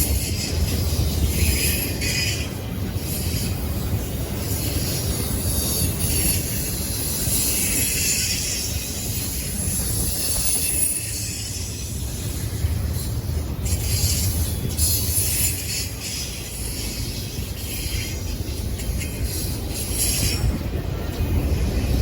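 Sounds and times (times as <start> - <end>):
train cars rumbling on rails: 0.0 - 22.0.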